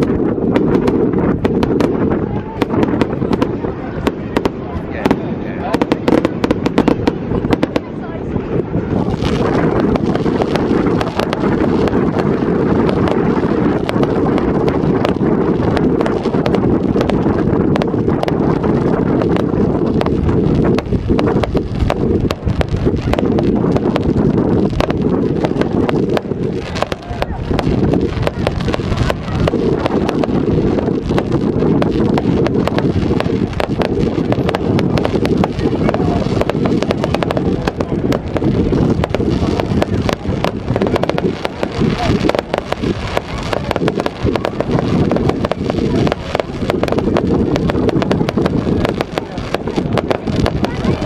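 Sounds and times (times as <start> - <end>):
fireworks cracks and bangs: 0.0 - 51.0
low fireworks rumble: 0.0 - 51.0
wind buffeting microphone: 0.0 - 51.0.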